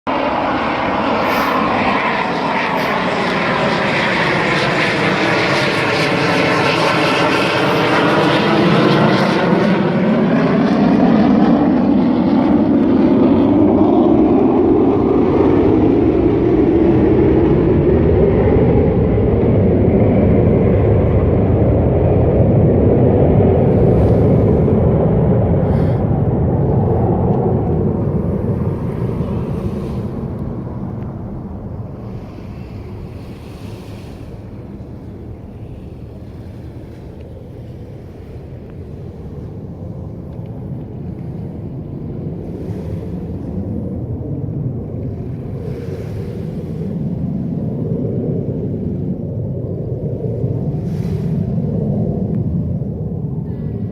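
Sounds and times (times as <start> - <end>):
small airplane passing overhead: 0.1 - 53.9.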